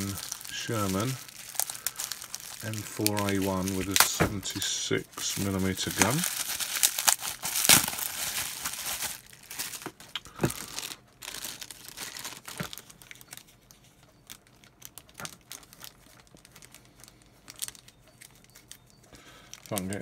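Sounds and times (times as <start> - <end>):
bubble wrap crinkling: 0.0 - 20.0
plastic bag crackling: 0.0 - 20.0.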